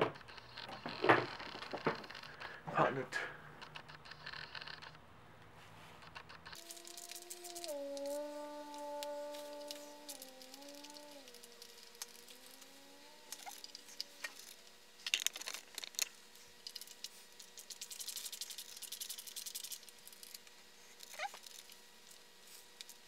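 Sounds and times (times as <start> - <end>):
faint steady tones: 0.0 - 23.0.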